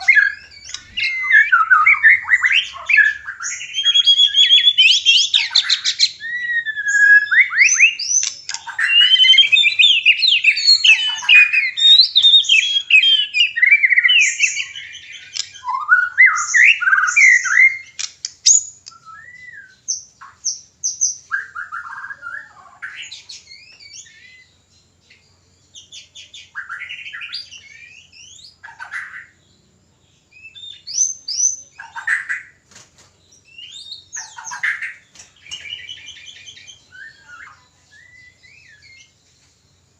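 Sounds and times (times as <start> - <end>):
songbirds whistling and trilling: 0.0 - 39.9.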